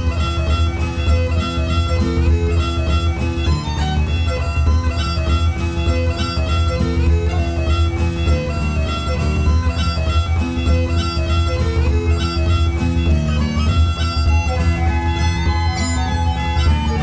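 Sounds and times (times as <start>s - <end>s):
quick instrumental melody: 0.0s - 17.0s.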